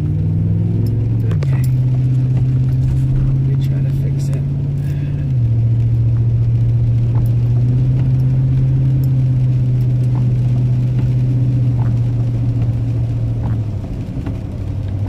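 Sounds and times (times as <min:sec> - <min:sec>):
engine and road noise drone: 0:00.0 - 0:15.0.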